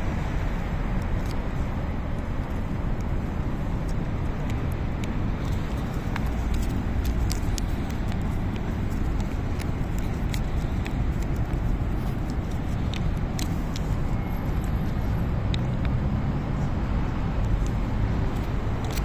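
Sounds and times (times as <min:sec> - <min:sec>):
low outdoor background rumble: 0:00.0 - 0:19.0.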